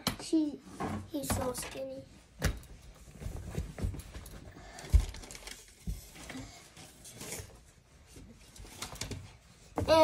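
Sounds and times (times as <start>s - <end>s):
soft rustling: 1.8s - 10.0s.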